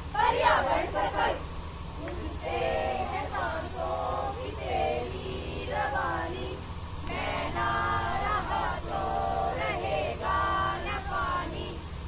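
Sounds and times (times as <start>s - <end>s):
group singing together: 0.0s - 12.0s
steady low rumble: 0.0s - 12.0s.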